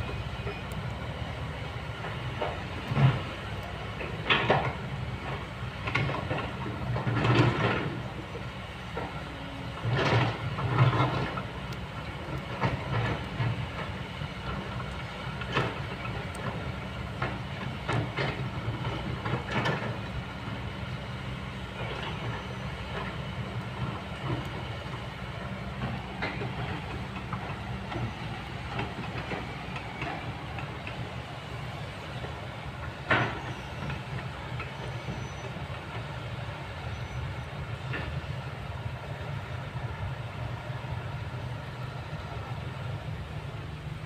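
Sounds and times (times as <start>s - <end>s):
diesel excavator engine running: 0.0s - 44.0s.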